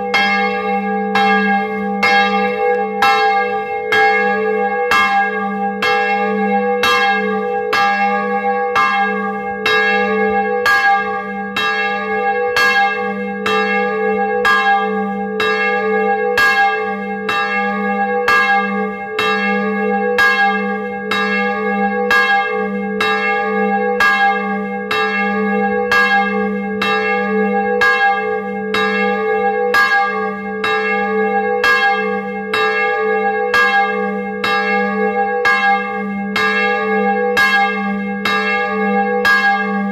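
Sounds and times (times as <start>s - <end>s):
swinging church bell ringing: 0.0s - 39.9s.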